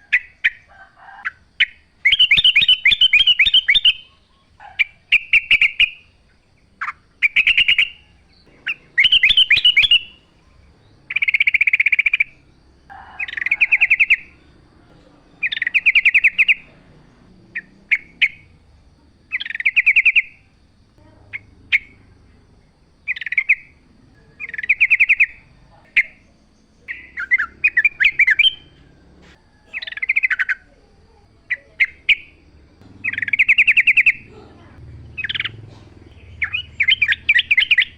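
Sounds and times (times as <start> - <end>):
bulbul singing: 0.0 - 37.9.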